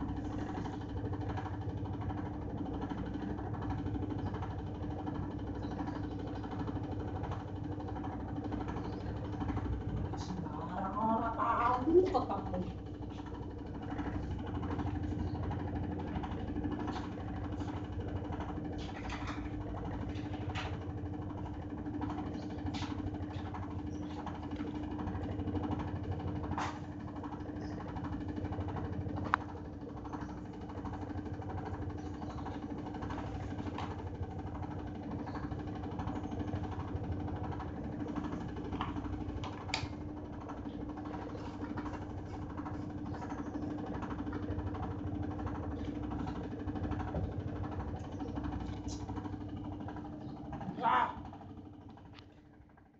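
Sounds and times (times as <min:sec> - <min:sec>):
washing machine humming: 0:00.0 - 0:52.9.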